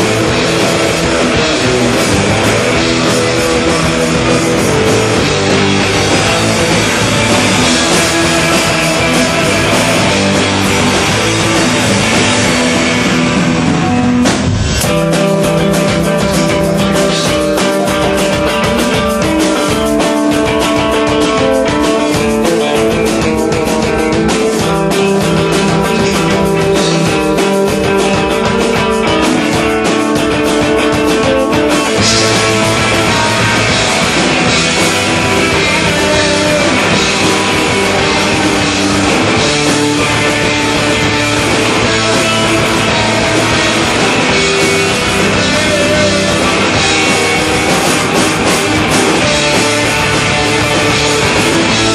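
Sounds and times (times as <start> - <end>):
rock band playing: 0.0 - 51.9.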